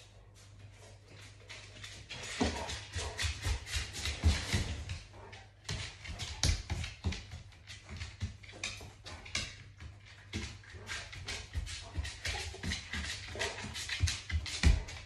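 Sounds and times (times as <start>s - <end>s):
dog claws clicking on wooden floor: 1.2s - 15.0s.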